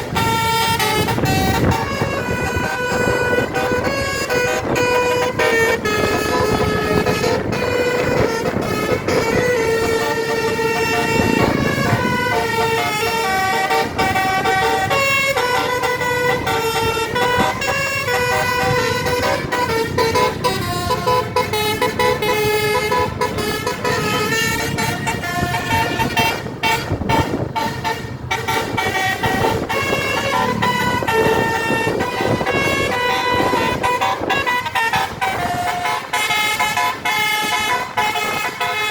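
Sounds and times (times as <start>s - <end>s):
multi-tone bus horn melody: 0.0s - 38.9s
steady rumble: 0.0s - 38.9s.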